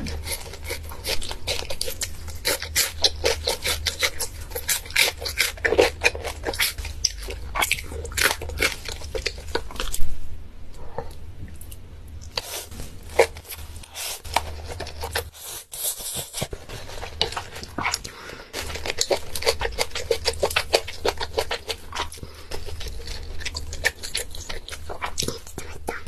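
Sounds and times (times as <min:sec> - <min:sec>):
person slurping and chewing noodles: 0:00.0 - 0:10.1, 0:12.2 - 0:26.0.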